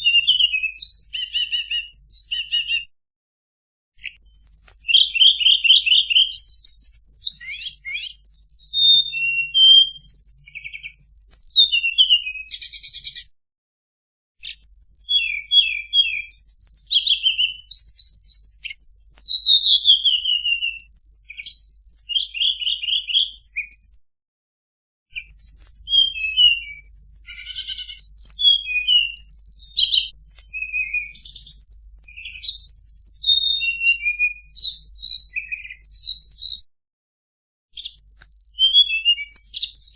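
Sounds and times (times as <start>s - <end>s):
birdsong with chirps and trills: 0.0s - 2.9s, 4.0s - 13.3s, 14.4s - 24.0s, 25.1s - 36.7s, 37.7s - 39.9s.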